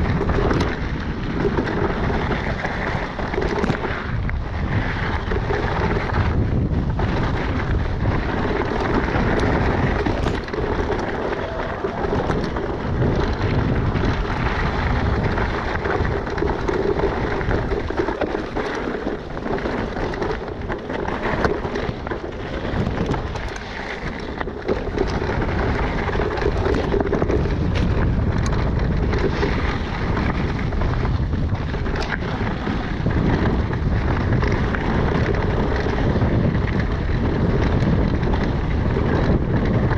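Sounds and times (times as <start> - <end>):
bike knocks and rattles: 0.0 - 39.9
tyres crunching on gravel: 0.0 - 39.9
wind buffeting microphone: 0.0 - 39.9.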